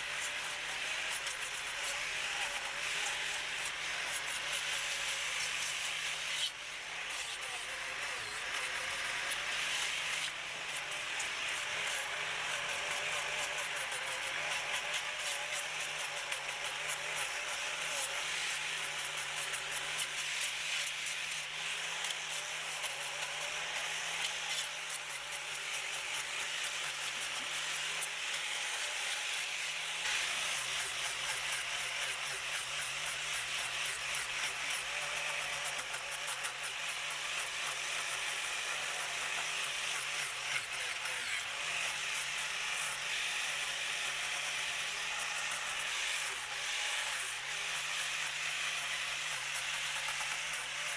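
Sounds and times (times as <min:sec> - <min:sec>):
power tool sanding wood: 0:00.0 - 0:50.9.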